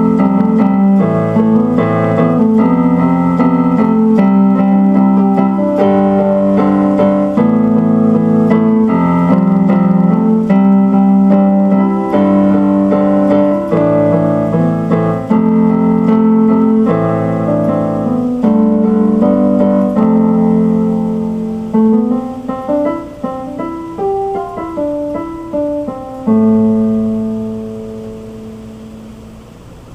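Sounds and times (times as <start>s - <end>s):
piano music: 0.0s - 29.9s.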